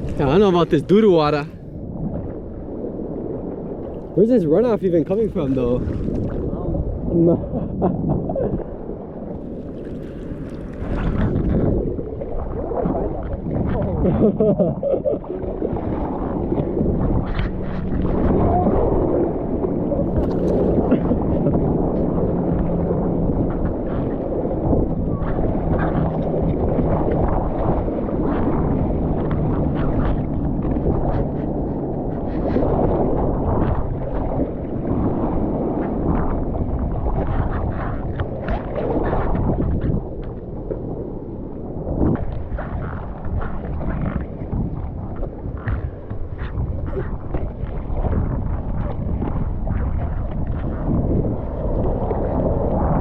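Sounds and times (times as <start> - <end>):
muffled seawater sloshing: 0.0 - 53.0
wind buffeting microphone: 0.0 - 53.0.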